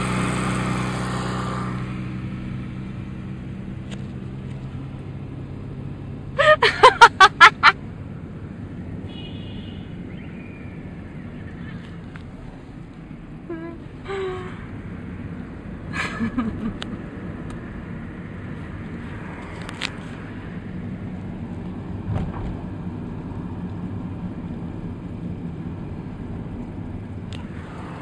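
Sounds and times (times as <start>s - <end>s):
car engine rumble: 0.0s - 28.0s
tyres on road: 0.0s - 28.0s.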